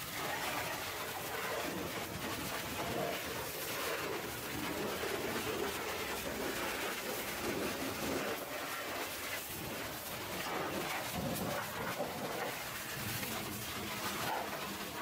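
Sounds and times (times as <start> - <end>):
pressure washer spraying on metal: 0.0 - 15.0.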